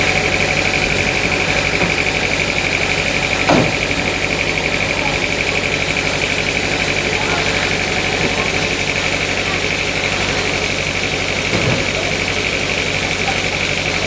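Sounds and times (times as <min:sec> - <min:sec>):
sawmill machinery whining: 0:00.0 - 0:14.0.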